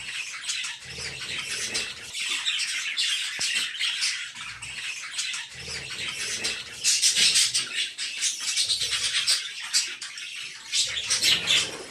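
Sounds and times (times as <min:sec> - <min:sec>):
chicks begging with raspy calls: 0:00.0 - 0:11.9.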